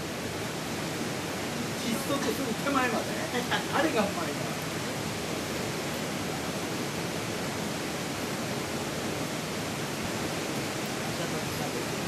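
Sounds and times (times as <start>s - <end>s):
stream rushing between boulders: 0.0s - 12.0s.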